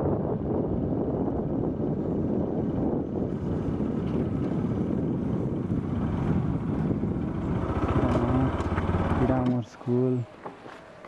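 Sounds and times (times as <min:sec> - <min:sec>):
wind on microphone: 0:00.0 - 0:09.4
motorcycle engine running: 0:00.0 - 0:09.8.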